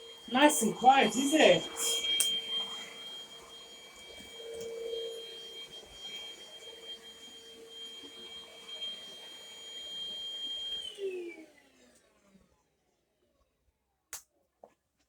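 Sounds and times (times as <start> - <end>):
vacuum motor winding down: 0.0 - 12.4
vacuum cleaner running: 0.0 - 12.6.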